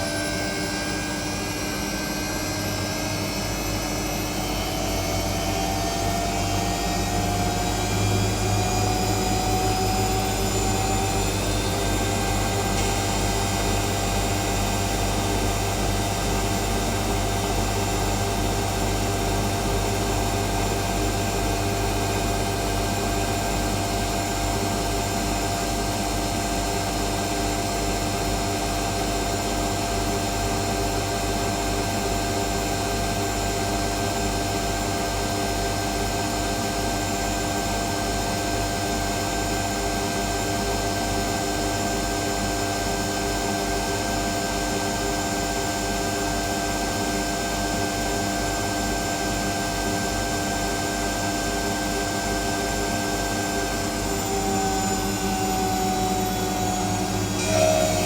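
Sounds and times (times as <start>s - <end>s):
washing machine spinning: 1.3s - 58.0s.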